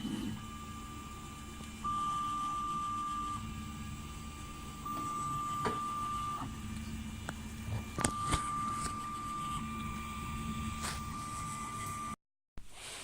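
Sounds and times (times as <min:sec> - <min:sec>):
high motor whine: 0:00.0 - 0:12.2.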